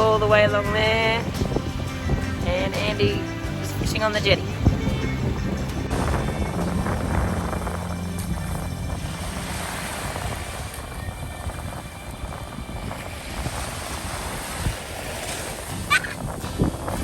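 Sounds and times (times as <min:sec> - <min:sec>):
sea waves on rocky shore: 0:00.0 - 0:17.0
wind rushing: 0:00.0 - 0:17.0.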